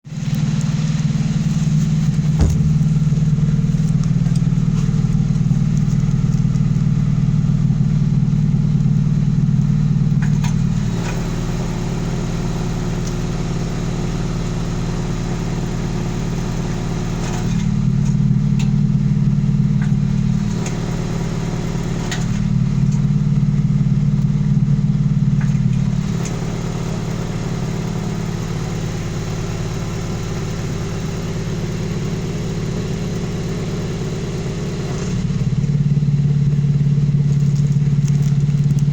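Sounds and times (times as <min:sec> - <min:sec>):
car engine idling through exhaust: 0:00.0 - 0:38.9.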